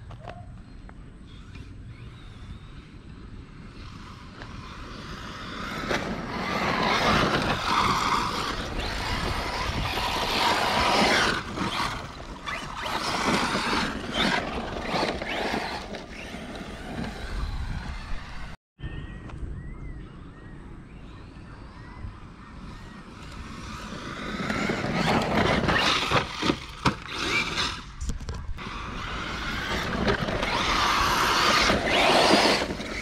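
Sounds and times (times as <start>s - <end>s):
rc truck driving on sand: 0.0s - 18.6s, 20.2s - 33.0s.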